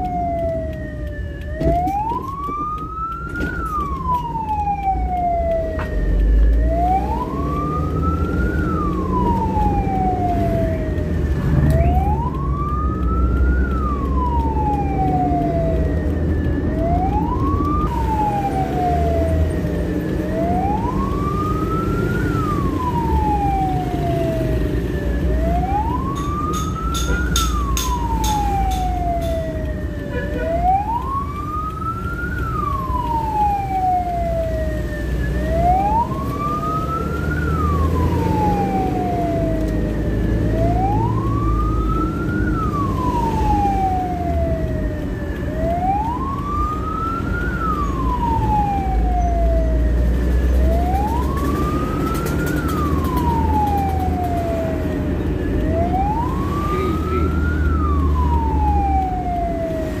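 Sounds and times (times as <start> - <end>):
ambulance siren wailing: 0.0 - 60.0
engine and road rumble: 0.0 - 60.0.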